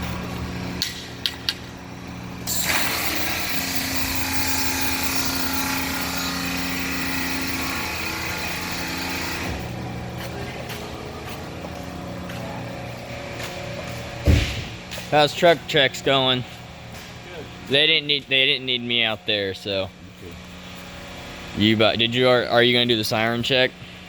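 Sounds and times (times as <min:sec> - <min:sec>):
diesel engine running: 0:00.0 - 0:22.1.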